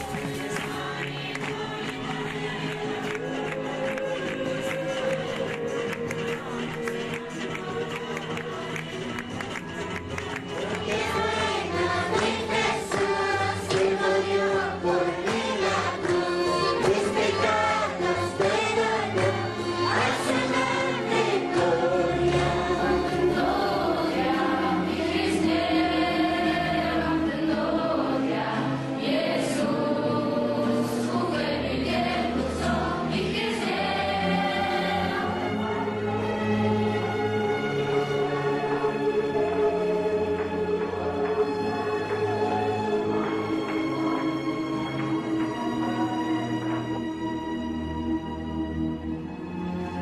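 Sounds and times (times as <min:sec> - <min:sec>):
choir singing: 0:00.0 - 0:09.0, 0:10.6 - 0:47.3
musical accompaniment: 0:00.0 - 0:50.0.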